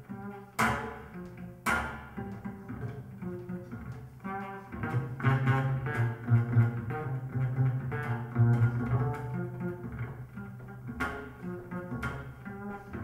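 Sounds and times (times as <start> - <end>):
double bass playing low notes: 0.0 - 13.0.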